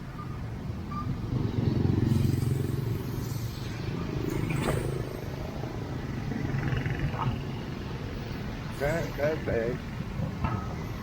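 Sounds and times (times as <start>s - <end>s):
heavy road traffic in rain: 0.0s - 11.0s.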